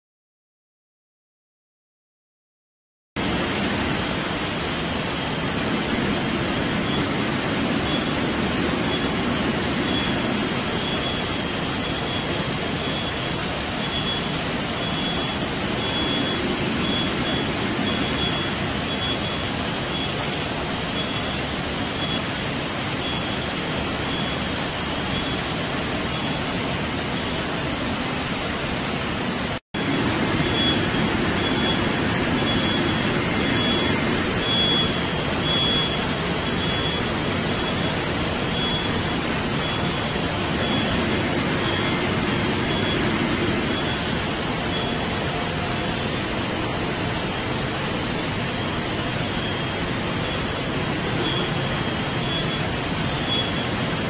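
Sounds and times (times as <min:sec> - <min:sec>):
machinery rushing hiss and hum: 0:03.2 - 0:54.0.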